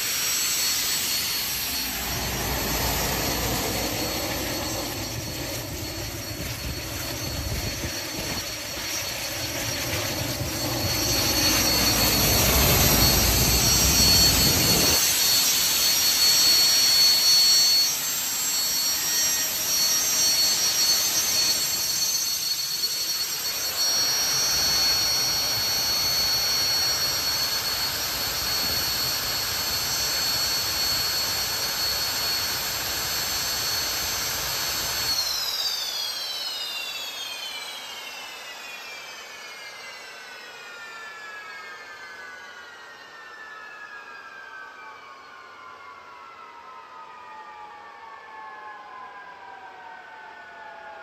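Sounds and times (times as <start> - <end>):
turboshaft engine roaring: 0.0 - 42.7
engine high whine: 0.0 - 50.8.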